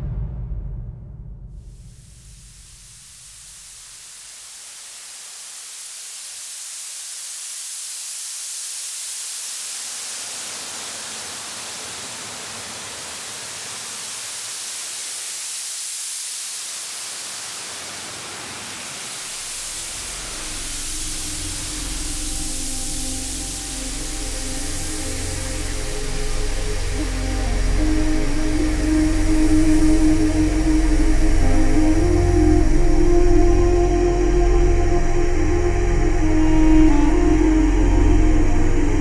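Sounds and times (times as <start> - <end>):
wind hissing: 1.5 - 39.0.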